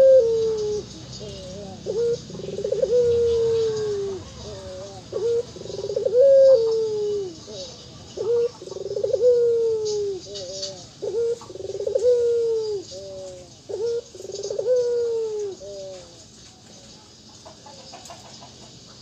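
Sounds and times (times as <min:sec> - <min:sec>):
dove cooing: 0:00.0 - 0:16.3.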